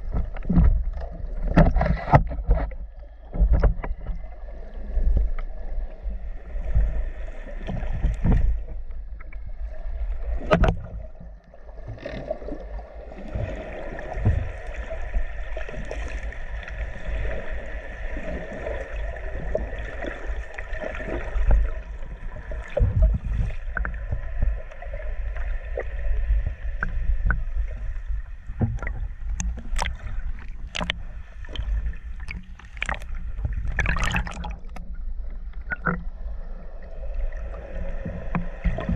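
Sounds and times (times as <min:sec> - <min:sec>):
underwater rumble and sloshing: 0:00.0 - 0:38.9.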